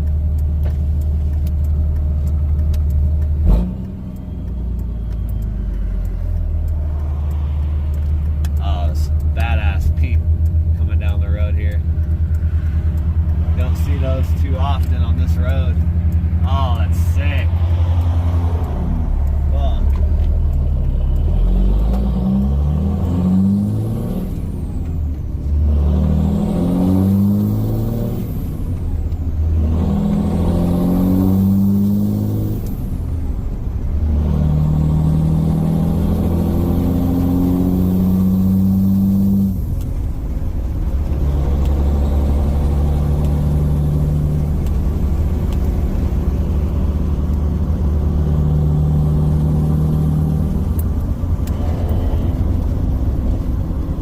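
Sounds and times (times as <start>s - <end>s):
diesel engine shifting gears: 0.0s - 54.0s.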